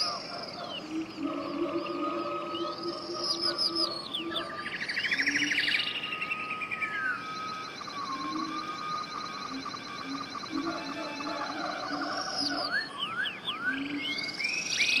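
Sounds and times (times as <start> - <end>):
birds singing: 0.0 - 15.0
fast bird trill: 0.0 - 15.0
long held bird whistle: 0.0 - 15.0.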